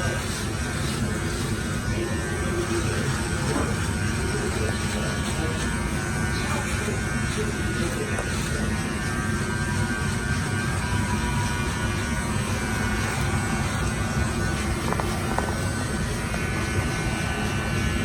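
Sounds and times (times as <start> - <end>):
hair clippers buzzing: 0.0 - 18.0.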